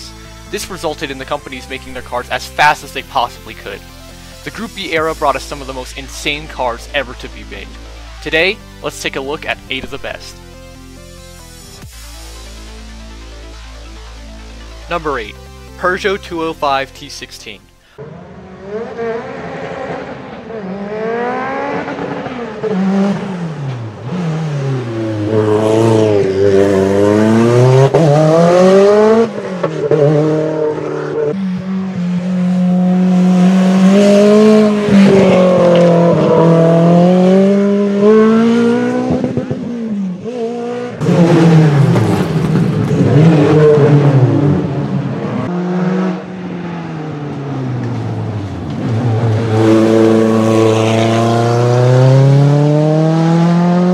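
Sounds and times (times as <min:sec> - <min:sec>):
rally car engine revving: 0:00.0 - 0:16.4, 0:17.7 - 0:53.9.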